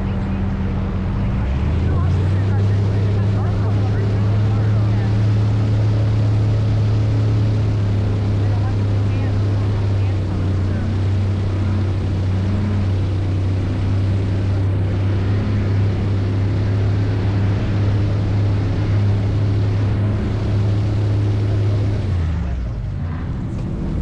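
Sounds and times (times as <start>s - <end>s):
airboat engine and propeller drone: 0.0s - 24.0s.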